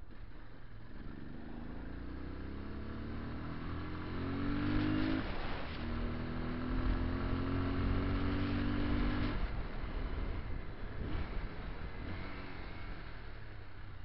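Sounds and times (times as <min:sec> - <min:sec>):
motorcycle engine accelerating: 0:00.1 - 0:13.6.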